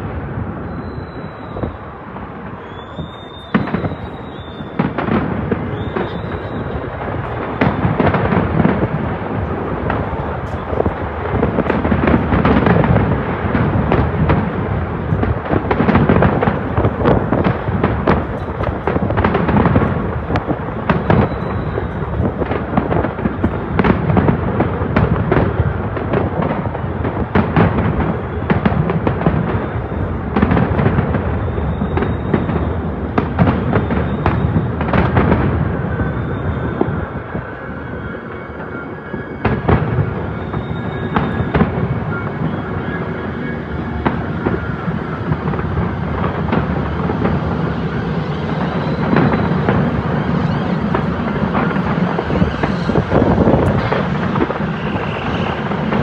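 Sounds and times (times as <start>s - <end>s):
distant fireworks bangs and crackling: 0.0s - 56.0s.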